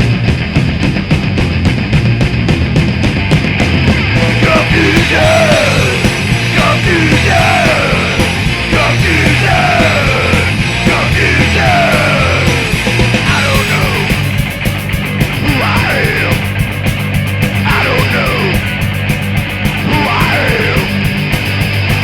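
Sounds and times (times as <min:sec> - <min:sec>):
punk rock band: 0:00.0 - 0:22.0.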